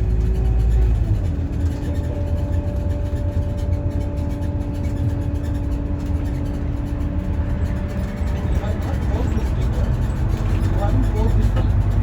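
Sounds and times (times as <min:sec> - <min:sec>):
bus engine rumble with whine: 0:00.0 - 0:12.0.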